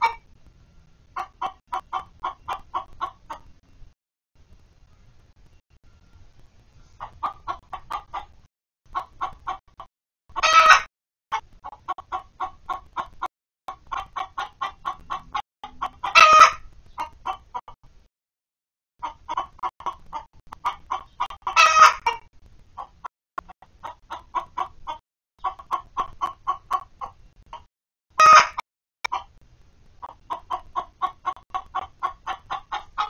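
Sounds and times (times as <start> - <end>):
hens cackling and squawking: 0.0 - 0.3, 1.2 - 3.5, 6.9 - 17.8, 19.0 - 29.4, 30.0 - 33.0.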